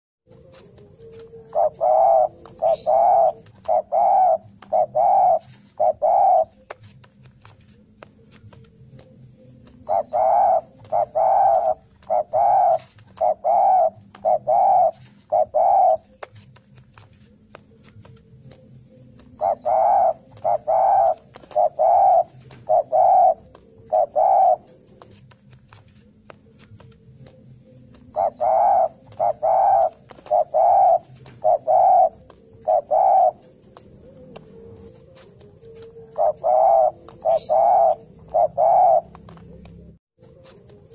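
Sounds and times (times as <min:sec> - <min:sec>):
dove cooing: 0:00.3 - 0:06.9, 0:08.4 - 0:16.4, 0:17.2 - 0:40.9.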